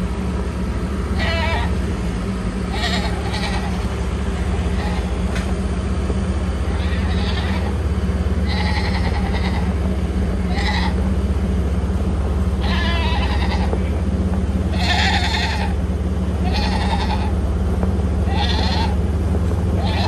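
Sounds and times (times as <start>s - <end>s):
farm animals bleating: 0.0s - 5.6s, 6.6s - 11.1s, 12.5s - 14.0s, 14.6s - 17.4s, 18.2s - 20.0s
low engine hum: 0.0s - 20.0s.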